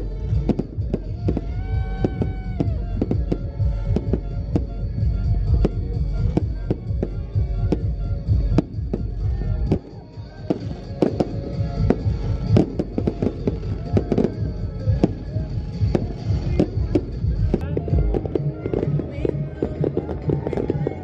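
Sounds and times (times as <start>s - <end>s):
fireworks bursting with sharp bangs: 0.0s - 21.0s.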